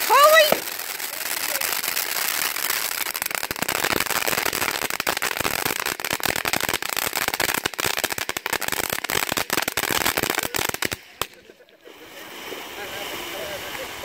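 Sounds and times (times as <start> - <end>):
firework spraying sparks: 0.0 - 14.0.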